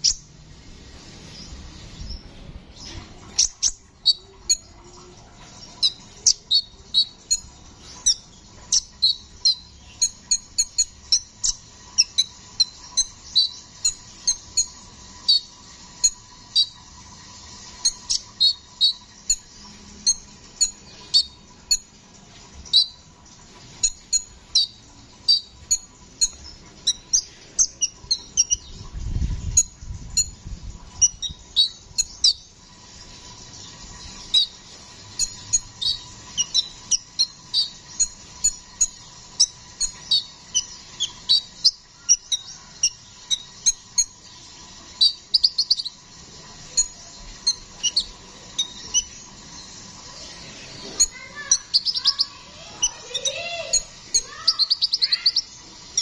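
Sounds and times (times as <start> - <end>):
bird chirping rapidly: 0.0 - 0.4, 1.2 - 4.8, 5.6 - 22.0, 22.6 - 23.1, 23.7 - 56.0.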